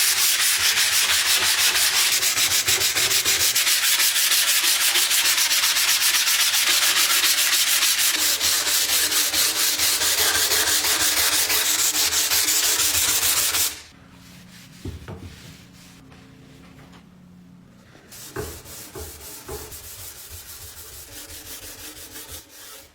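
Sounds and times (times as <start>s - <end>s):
sanding strokes: 0.0s - 16.0s, 18.0s - 22.9s.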